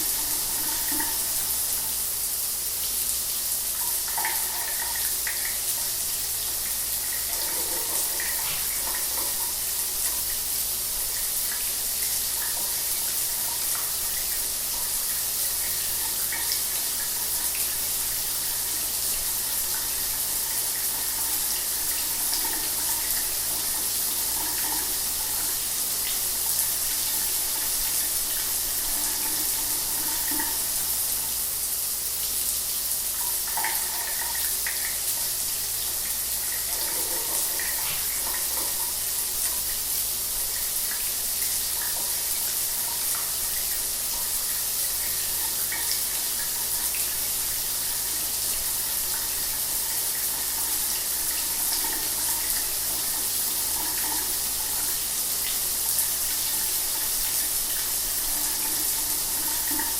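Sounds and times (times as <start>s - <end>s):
shower water running: 0.0s - 59.9s.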